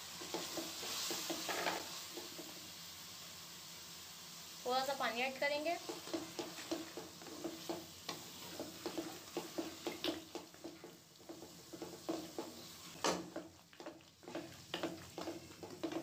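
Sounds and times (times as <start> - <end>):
masala sizzling in pot: 0.0 - 16.0.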